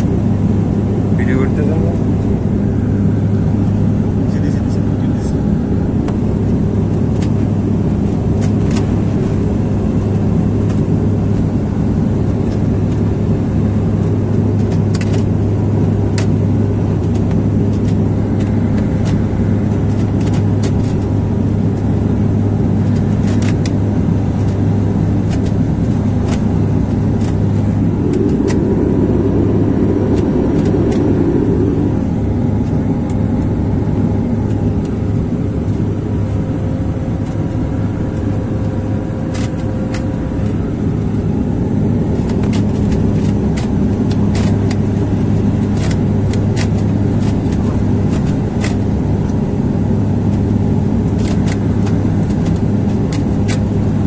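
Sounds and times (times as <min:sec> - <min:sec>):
airliner engines droning in cabin: 0:00.0 - 0:54.0
steady hum tone: 0:00.0 - 0:54.0.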